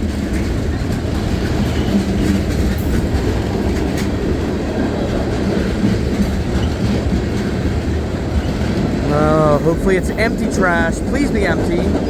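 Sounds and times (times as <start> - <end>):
freight cars rolling past: 0.0 - 12.0.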